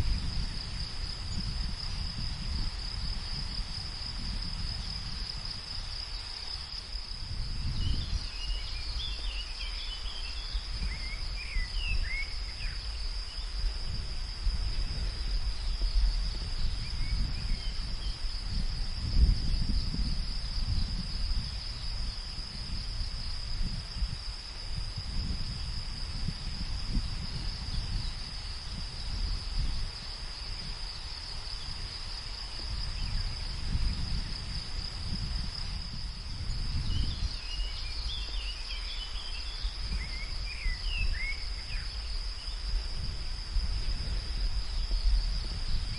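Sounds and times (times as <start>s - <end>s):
crickets chirping: 0.0s - 45.9s
wind rumble: 0.0s - 45.9s.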